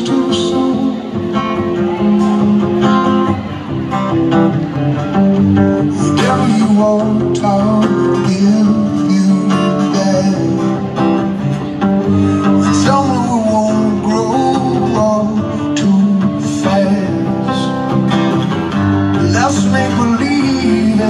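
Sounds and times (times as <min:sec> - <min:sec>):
acoustic guitar through pa: 0:00.0 - 0:21.0.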